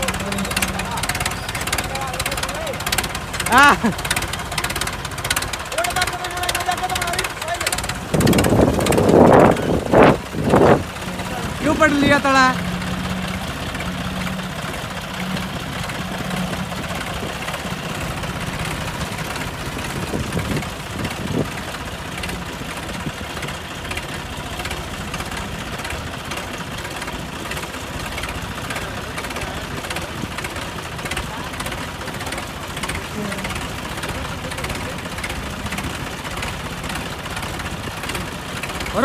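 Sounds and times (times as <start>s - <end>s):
tractor diesel engines running hard: 0.0s - 39.0s.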